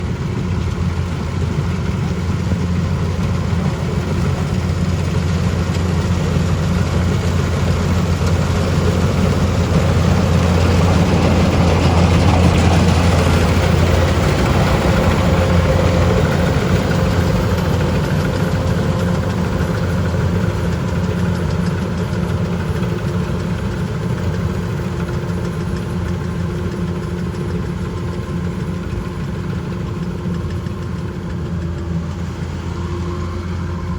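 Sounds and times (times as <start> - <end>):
farm machine engine running: 0.0 - 33.9.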